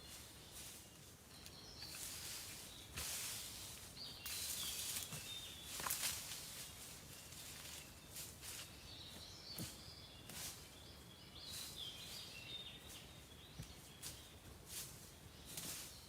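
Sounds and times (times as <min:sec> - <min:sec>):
scuffs and rustles: 0:00.0 - 0:10.8, 0:11.4 - 0:16.0
small birds singing: 0:00.0 - 0:16.0.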